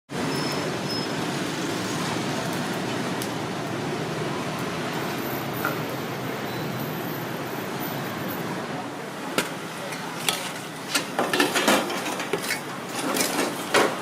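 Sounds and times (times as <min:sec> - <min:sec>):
street traffic rumble: 0:00.1 - 0:14.0.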